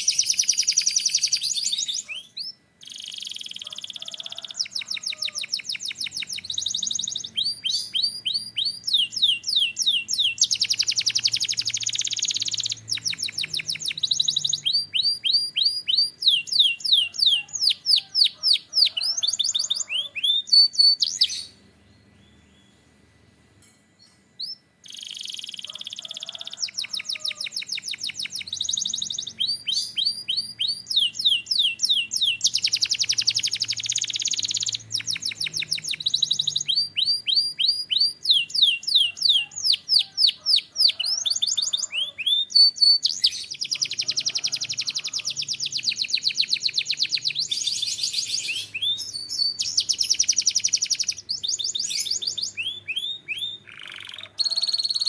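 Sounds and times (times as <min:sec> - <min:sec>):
canary singing: 0:00.0 - 0:22.9, 0:24.0 - 0:55.0.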